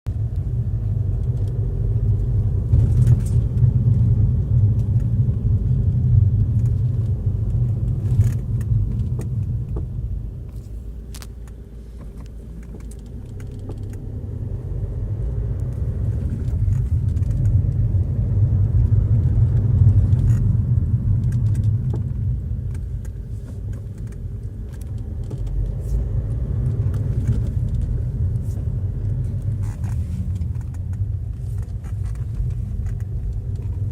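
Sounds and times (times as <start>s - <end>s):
car driving rumble: 0.1s - 33.9s.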